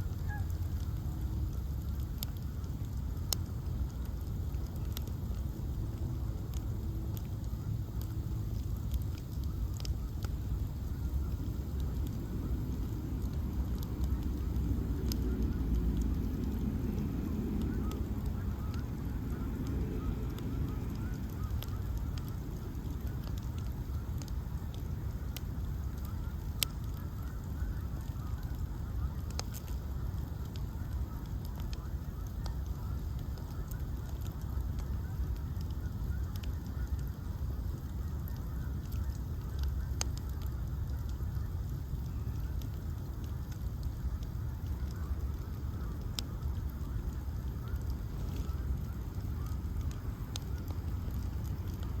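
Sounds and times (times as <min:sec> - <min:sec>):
bonfire crackling and popping: 0:00.0 - 0:52.0
low rush of flames: 0:00.0 - 0:52.0.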